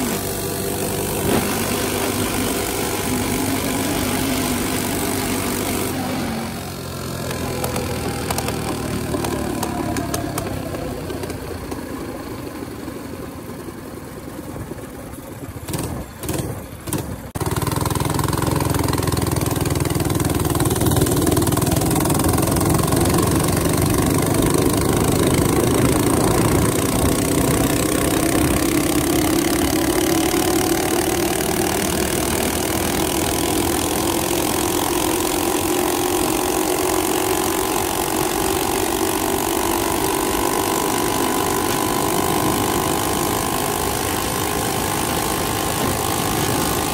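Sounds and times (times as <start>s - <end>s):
minibike engine running: 0.0s - 46.9s
road and wind rush: 0.0s - 46.9s.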